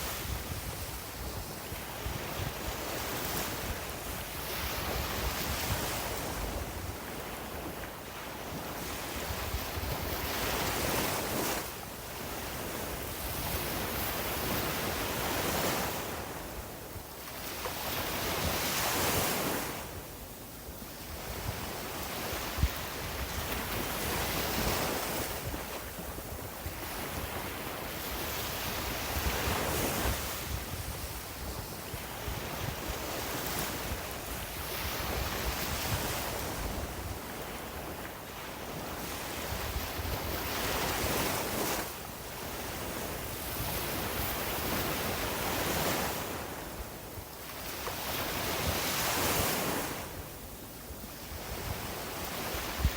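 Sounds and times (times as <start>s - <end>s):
wind rumbling on microphone: 0.0s - 52.9s.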